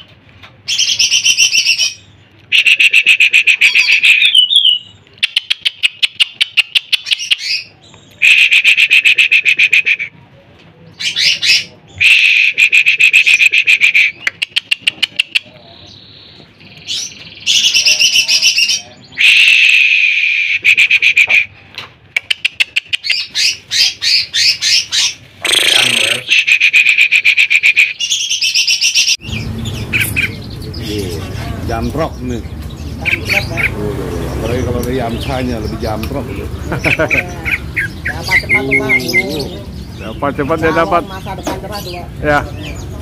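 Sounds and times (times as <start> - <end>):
bird singing chattering trills: 0.7 - 9.8, 10.9 - 19.7, 22.2 - 43.0.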